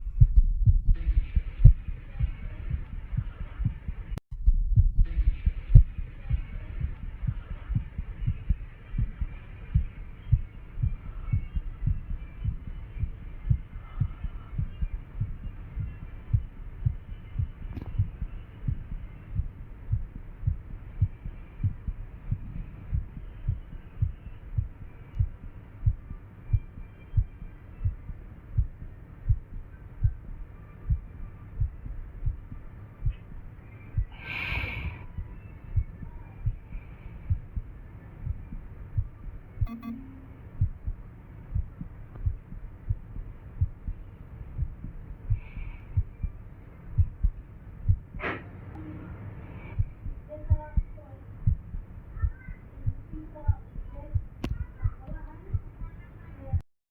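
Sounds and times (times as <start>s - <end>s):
heartbeat thumps: 0.0s - 48.4s, 49.7s - 56.6s.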